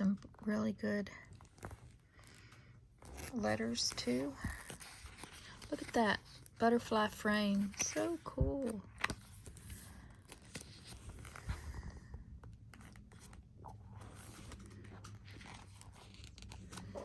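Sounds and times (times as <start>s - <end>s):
paper pages rustling and turning: 1.2s - 17.0s.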